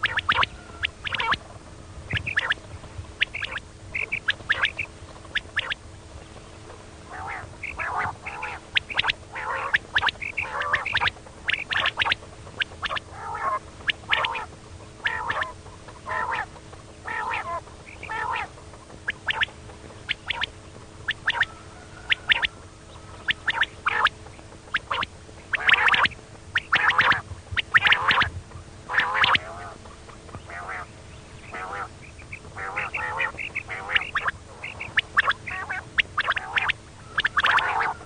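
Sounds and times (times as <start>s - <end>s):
quail calling: 0.0s - 1.5s, 2.1s - 5.8s, 6.8s - 38.0s
faint steady hum: 0.0s - 38.0s.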